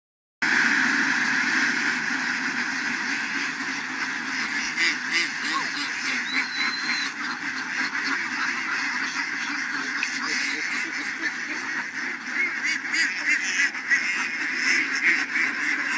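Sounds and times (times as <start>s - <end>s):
flock of ducks quacking: 0.4s - 15.9s.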